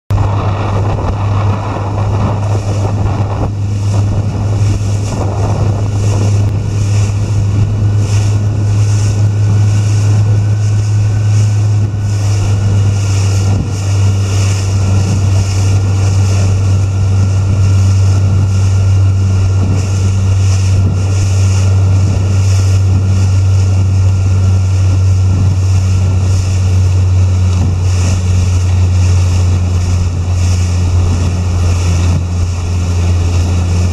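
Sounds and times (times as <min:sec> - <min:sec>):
outboard motor droning: 0:00.1 - 0:33.9
water rushing past hull: 0:00.1 - 0:33.9
wind buffeting microphone: 0:00.1 - 0:33.9.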